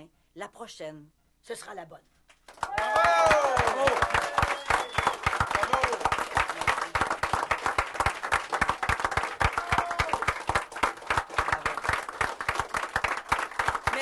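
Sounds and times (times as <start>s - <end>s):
sharp close claps: 2.3s - 14.0s
crowd applauding: 2.5s - 14.0s.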